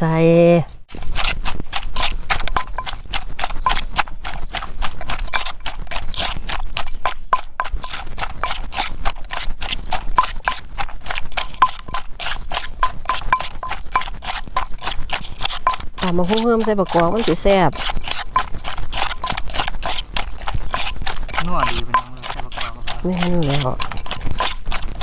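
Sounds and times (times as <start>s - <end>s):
pestle pounding in mortar: 0.9s - 25.0s.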